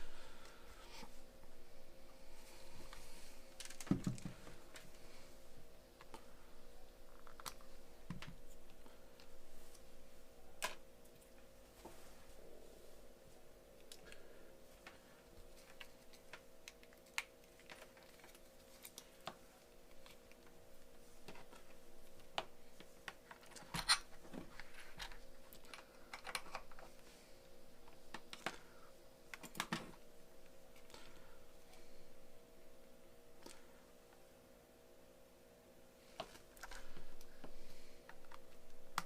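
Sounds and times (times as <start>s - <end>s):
faint electrical hum: 0.0s - 39.0s.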